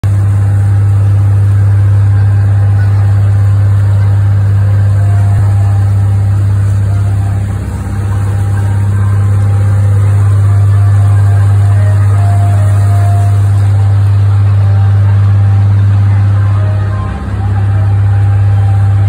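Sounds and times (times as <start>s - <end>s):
motorboat engine drone: 0.0s - 19.0s
water washing along hull: 0.0s - 19.0s.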